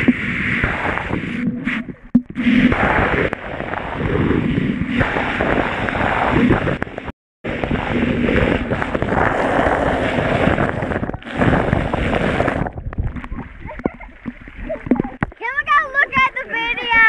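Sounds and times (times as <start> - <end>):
water rushing and splashing: 0.0 - 17.0.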